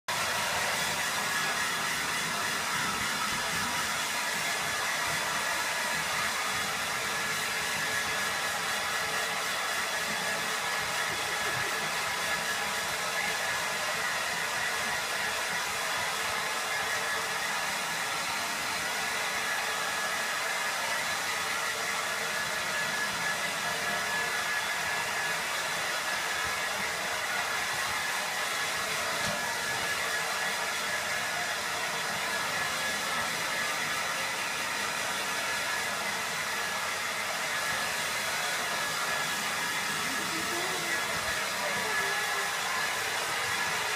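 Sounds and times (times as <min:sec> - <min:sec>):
hair dryer running: 0:00.1 - 0:43.9.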